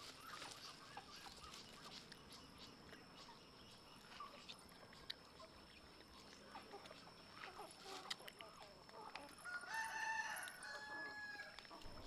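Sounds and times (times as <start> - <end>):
soft chirps and ticks: 0.0 - 9.6, 10.3 - 10.7, 11.4 - 12.0.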